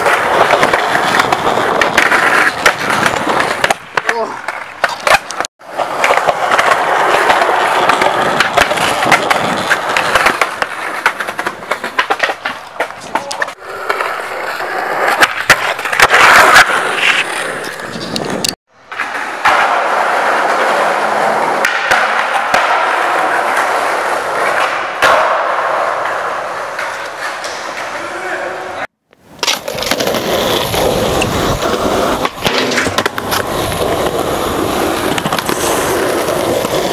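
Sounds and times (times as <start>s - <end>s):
skateboard clacking on ground: 0.0s - 28.4s, 29.3s - 36.9s
skateboard wheels rolling on concrete: 0.0s - 36.9s.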